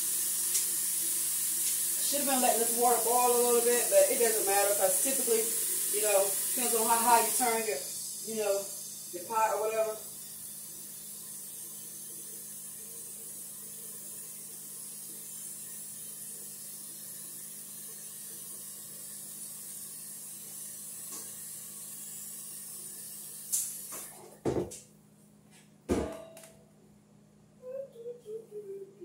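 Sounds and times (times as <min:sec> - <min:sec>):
water heating hiss and hum: 0:00.0 - 0:24.9.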